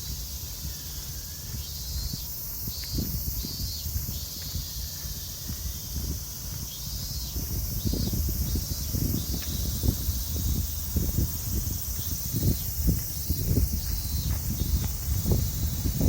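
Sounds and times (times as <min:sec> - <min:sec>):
high insect drone: 0:00.0 - 0:16.0
wind rumble on microphone: 0:00.0 - 0:16.0.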